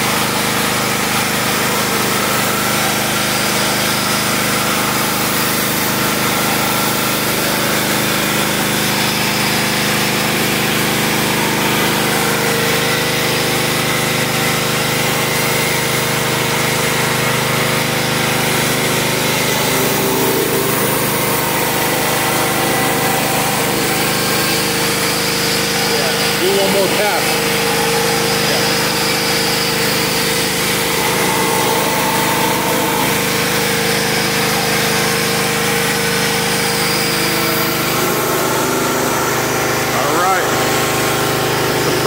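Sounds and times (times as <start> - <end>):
pressure washer spraying: 0.0 - 42.0.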